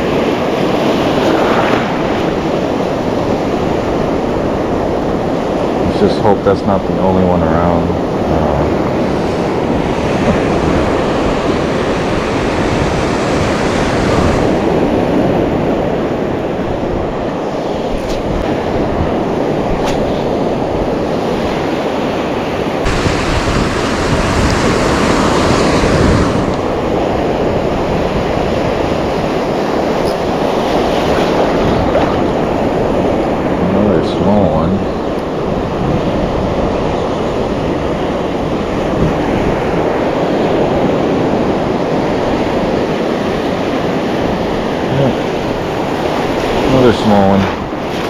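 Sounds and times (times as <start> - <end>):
ocean surf breaking on shore: 0.0 - 48.0.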